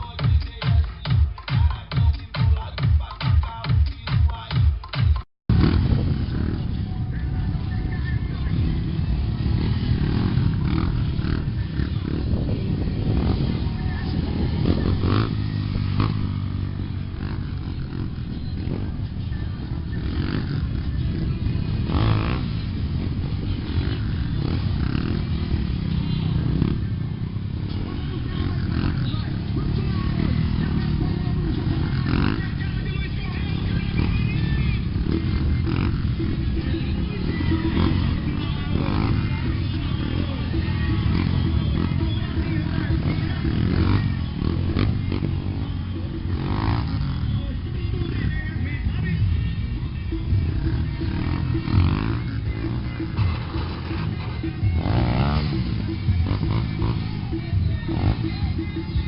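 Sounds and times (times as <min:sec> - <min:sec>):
bass-heavy music from car speakers: 0:00.0 - 0:25.8, 0:26.6 - 0:59.0
voices: 0:05.6 - 0:59.0.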